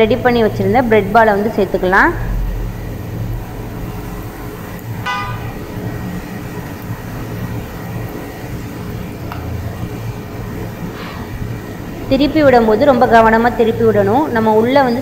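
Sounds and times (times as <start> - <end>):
oil sizzling and bubbling: 0.0 - 15.0
steady low hum: 0.0 - 15.0.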